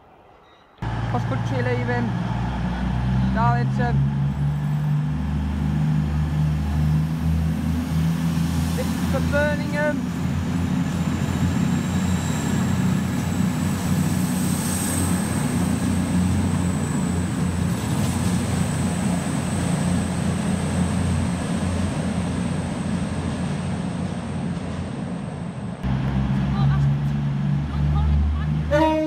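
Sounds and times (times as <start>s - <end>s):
diesel train engines droning: 0.0s - 29.0s.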